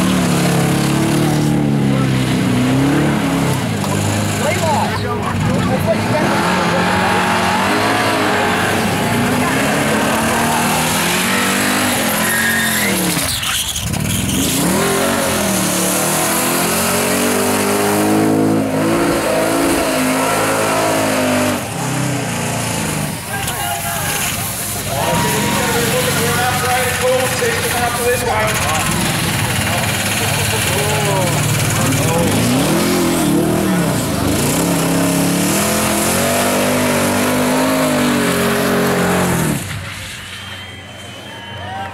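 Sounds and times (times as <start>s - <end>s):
engine revving at high revs: 0.0s - 13.2s, 13.8s - 23.2s, 25.0s - 39.7s
spinning tyres hissing: 6.5s - 40.6s.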